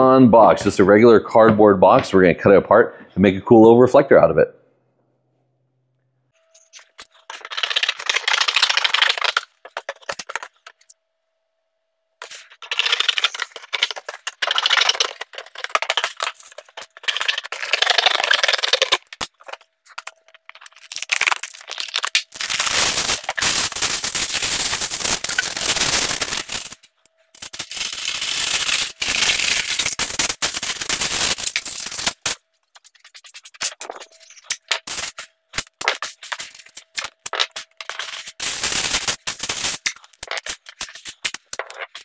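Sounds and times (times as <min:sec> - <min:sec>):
aluminum foil crinkling: 0:06.6 - 0:10.9, 0:12.2 - 0:42.0.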